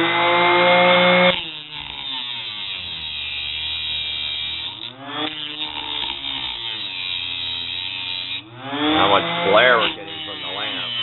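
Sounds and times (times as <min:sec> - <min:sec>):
grinder cutting metal: 0:00.0 - 0:11.0.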